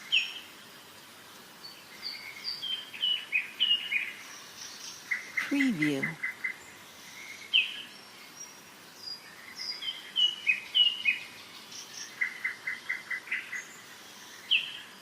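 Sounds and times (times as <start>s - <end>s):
river water hiss: 0.0s - 15.0s
songbirds singing: 0.0s - 15.0s.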